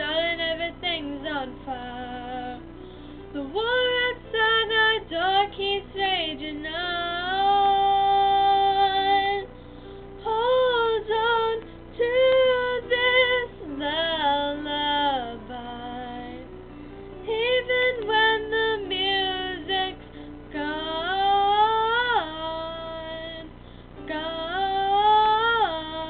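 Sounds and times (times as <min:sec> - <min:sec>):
girl singing ballad: 0:00.0 - 0:26.0
soft musical accompaniment: 0:00.0 - 0:26.0.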